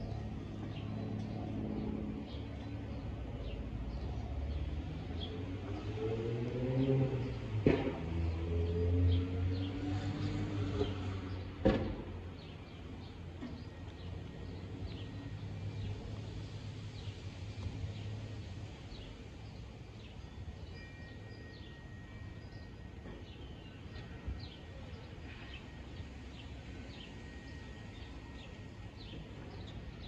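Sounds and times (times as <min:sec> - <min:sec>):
faint low aircraft engine drone: 0:00.0 - 0:05.8, 0:10.6 - 0:30.0.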